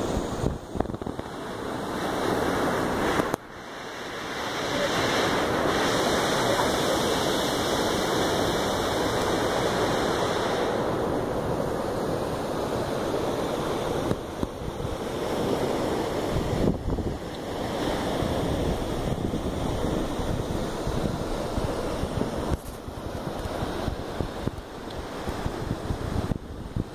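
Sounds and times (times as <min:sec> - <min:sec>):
waterfall rushing over rocks: 0:00.0 - 0:26.9
wind noise on microphone: 0:00.0 - 0:26.9.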